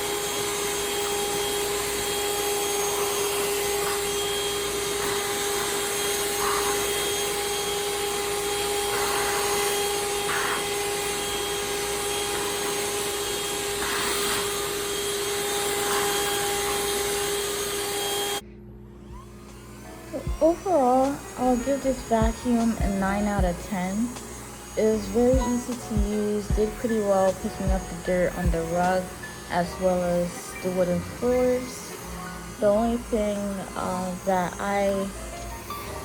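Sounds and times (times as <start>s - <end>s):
handheld vacuum running: 0.0s - 36.0s.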